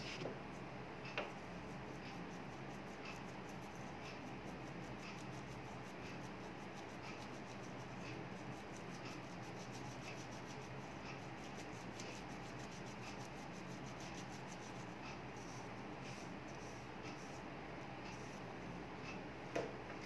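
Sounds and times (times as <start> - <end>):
faint workshop hum: 0.0 - 20.0.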